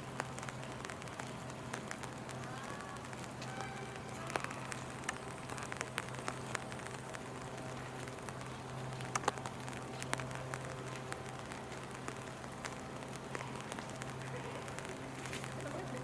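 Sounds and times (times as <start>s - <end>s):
rain falling: 0.0s - 16.0s
raindrops ticking nearby: 0.0s - 16.0s
steady low hum: 0.0s - 16.0s.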